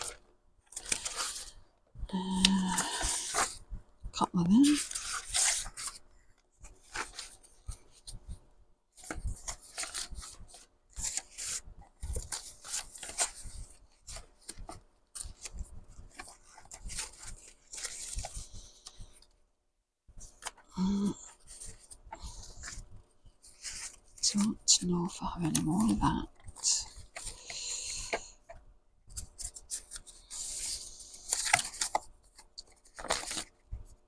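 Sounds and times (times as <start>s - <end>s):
paper sheets rustling: 0.0s - 1.6s, 4.5s - 6.0s, 6.6s - 8.4s, 9.0s - 19.1s, 21.4s - 34.0s.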